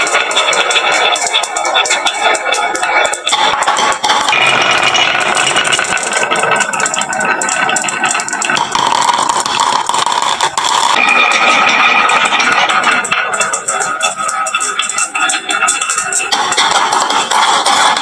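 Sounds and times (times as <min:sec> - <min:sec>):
marbles clattering down wooden run: 0:00.0 - 0:18.0.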